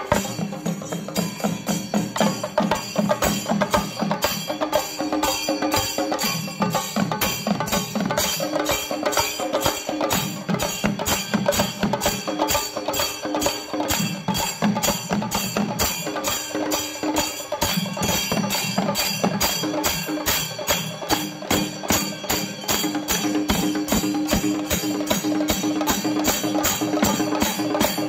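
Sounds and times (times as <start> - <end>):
drums beaten with sticks: 0.0 - 28.0
hand cymbals clashing: 0.0 - 28.0.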